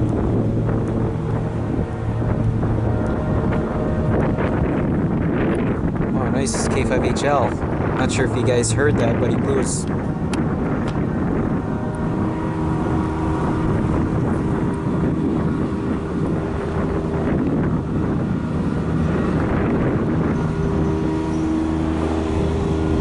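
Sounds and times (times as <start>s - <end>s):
engine droning: 0.0s - 23.0s
wind on microphone: 0.0s - 23.0s.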